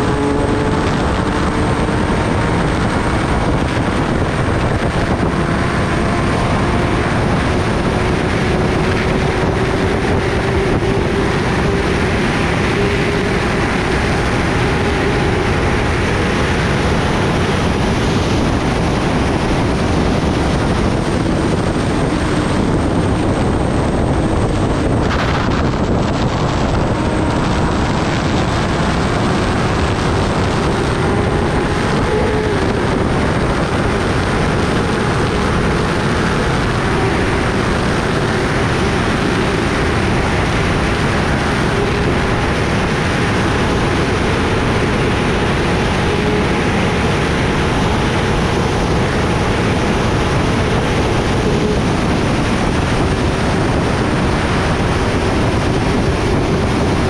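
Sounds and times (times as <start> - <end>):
motorcycle engine at high speed: 0.0 - 57.0
wind rush: 0.0 - 57.0.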